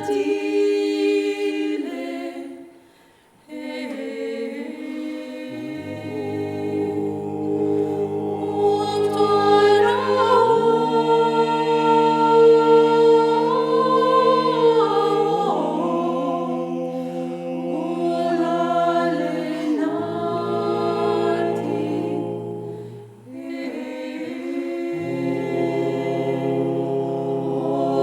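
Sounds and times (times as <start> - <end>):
a cappella choir singing: 0.0 - 28.0.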